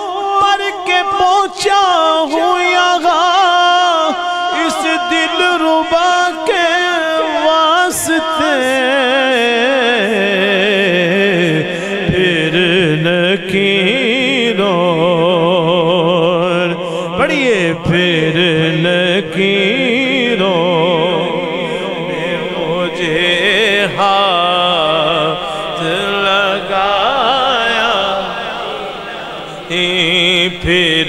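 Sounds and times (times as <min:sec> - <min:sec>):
man singing melismatic phrases: 0:00.0 - 0:31.0.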